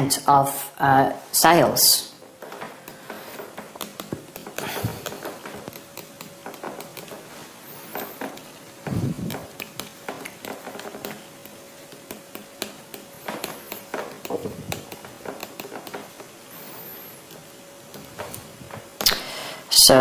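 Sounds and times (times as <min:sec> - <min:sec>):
light writing taps and clicks: 0:02.4 - 0:19.2.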